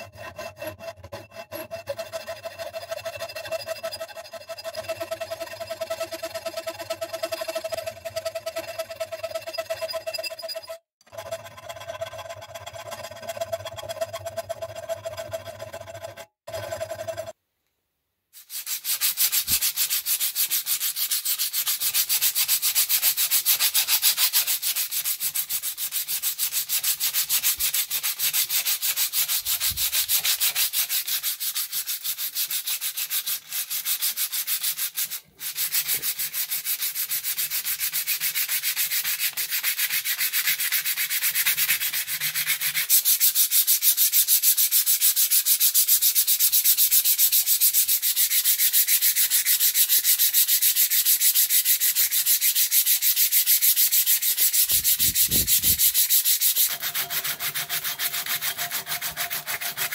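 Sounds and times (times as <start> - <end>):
sandpaper sanding steel: 0.0 - 10.8, 18.4 - 59.9
metal file rasping on scissors: 0.0 - 17.4, 18.4 - 59.9.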